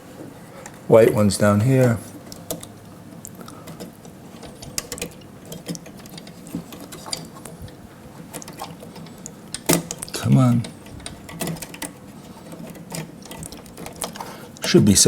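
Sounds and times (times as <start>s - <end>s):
plastic hoses clicking onto fittings: 1.8s - 14.8s.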